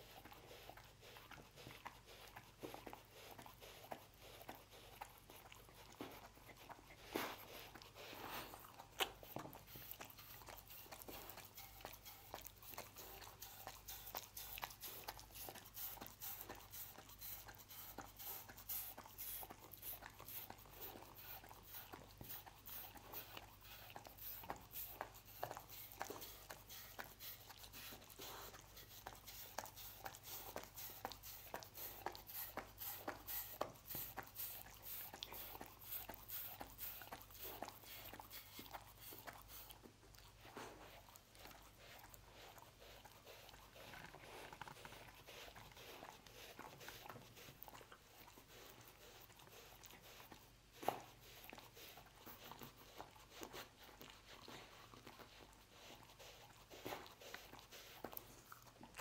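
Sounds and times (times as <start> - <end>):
dog licking wet tongue laps: 0.0 - 59.0.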